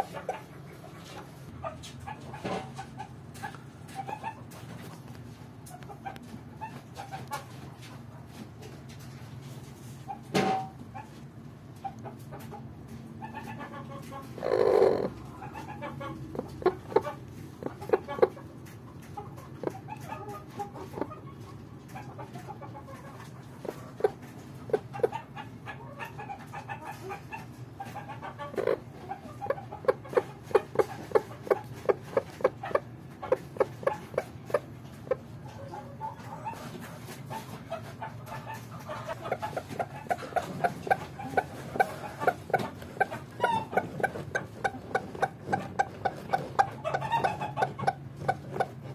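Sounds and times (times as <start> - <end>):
hen clucking: 0.0 - 48.9.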